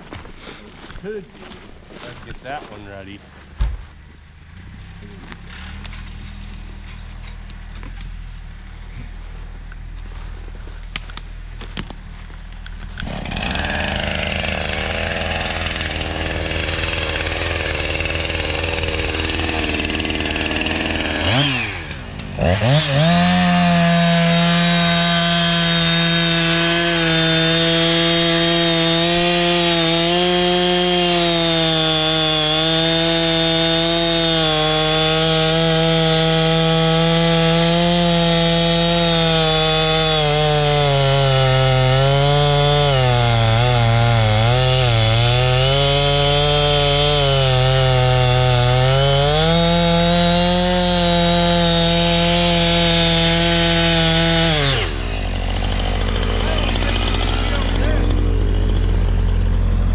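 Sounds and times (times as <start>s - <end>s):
chainsaw cutting log: 4.6s - 59.9s.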